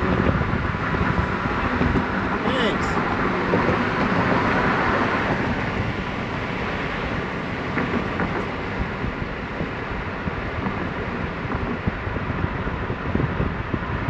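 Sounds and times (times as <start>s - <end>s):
car engine hum: 0.0s - 14.0s
road and tyre noise: 0.0s - 14.0s.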